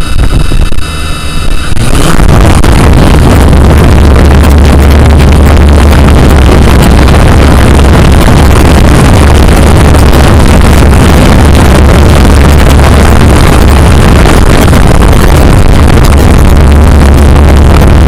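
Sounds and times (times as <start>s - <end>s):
drone propellers buzzing: 0.0s - 18.0s
wind noise on microphone: 0.0s - 18.0s.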